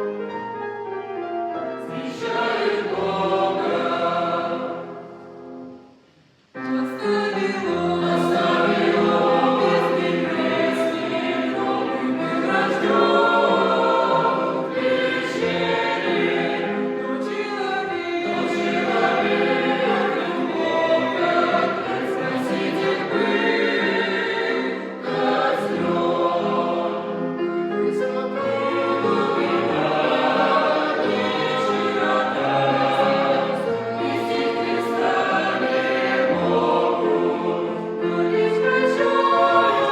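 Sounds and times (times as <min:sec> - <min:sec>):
choir singing: 0:01.6 - 0:06.0, 0:06.6 - 0:39.9.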